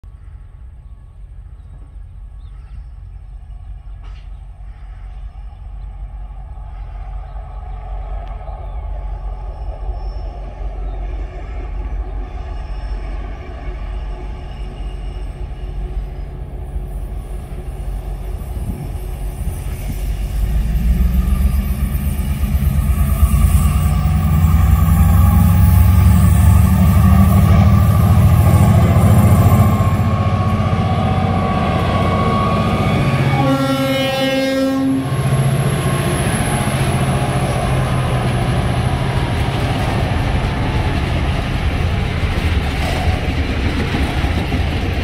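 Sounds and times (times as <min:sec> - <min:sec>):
diesel locomotive rumble: 0:00.2 - 0:45.0.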